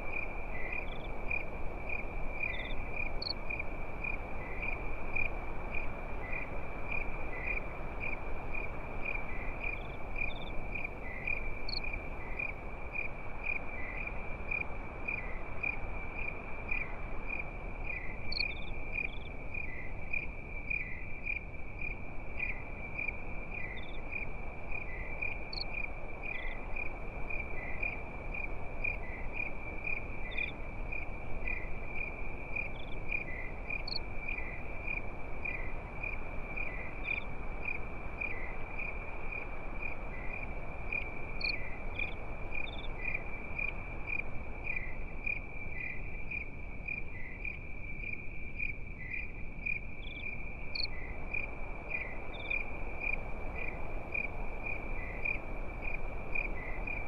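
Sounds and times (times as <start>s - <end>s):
crickets chirping: 0.0s - 57.0s
low even hiss: 0.0s - 57.0s
higher insect chirps: 0.1s - 57.0s.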